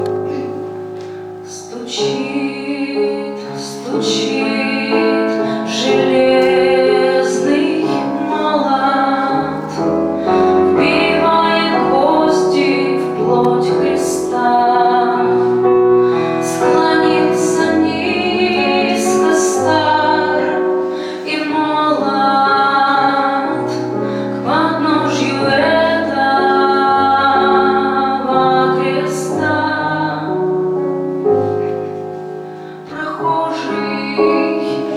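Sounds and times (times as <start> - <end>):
woman singing: 0.0 - 30.7, 32.8 - 34.9
piano accompaniment: 0.0 - 34.9.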